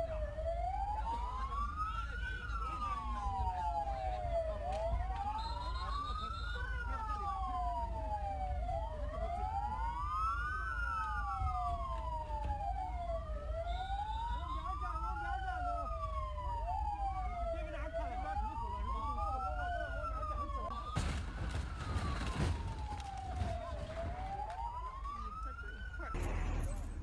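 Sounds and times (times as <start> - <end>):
sirens wailing: 0.0 - 27.0.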